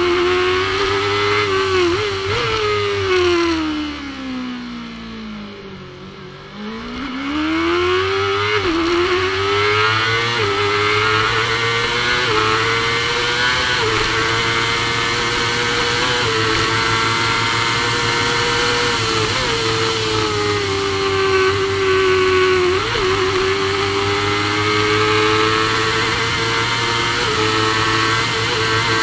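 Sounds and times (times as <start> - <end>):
racing motorcycle engine accelerating: 0.0 - 29.0.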